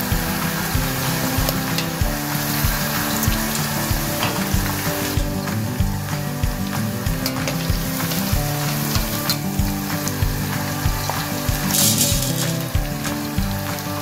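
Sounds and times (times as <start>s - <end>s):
background music with beat: 0.0s - 14.0s
chicken deep-frying in oil: 0.0s - 14.0s.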